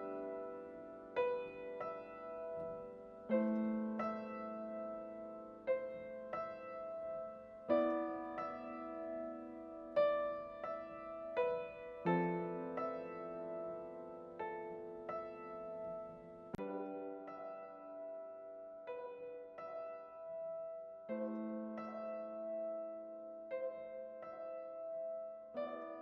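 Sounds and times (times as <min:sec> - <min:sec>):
soft slow piano music: 0:00.0 - 0:26.0.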